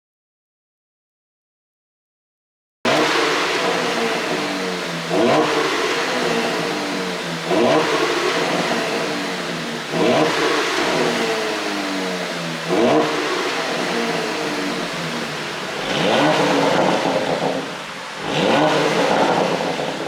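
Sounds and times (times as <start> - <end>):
car exhaust revving: 2.9 - 20.0
exhaust pops: 2.9 - 20.0.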